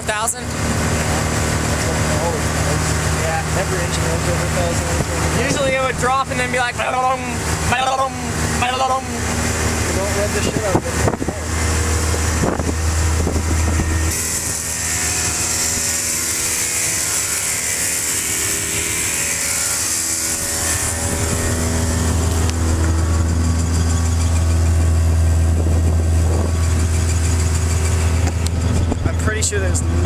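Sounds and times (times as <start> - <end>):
car engine running at high idle: 0.0 - 30.0
engine hiss: 0.1 - 30.0.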